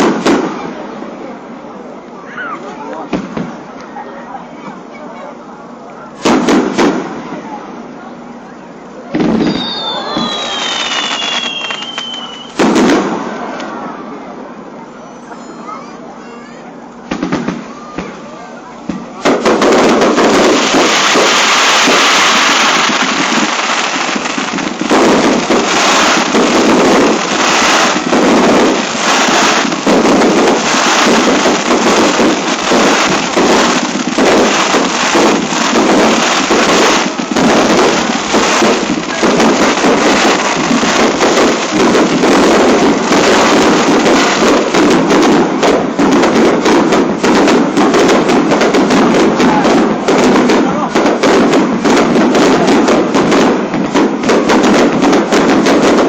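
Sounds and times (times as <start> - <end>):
firework shells bursting and crackling: 0.0 - 4.0, 5.8 - 7.8, 8.8 - 13.9, 16.9 - 56.0
firework bangs: 0.0 - 56.0.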